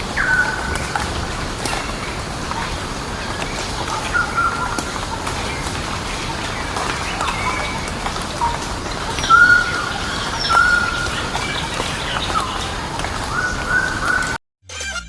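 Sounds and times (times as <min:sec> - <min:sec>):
birds whistling and chirping: 0:00.0 - 0:14.4.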